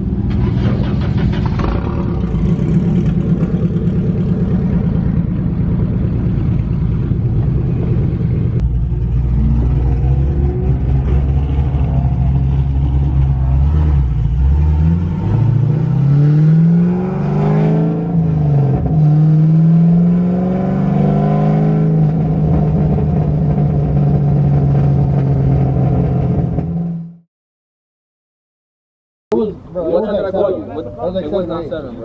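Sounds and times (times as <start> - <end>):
car engine revving: 0.0 - 27.2.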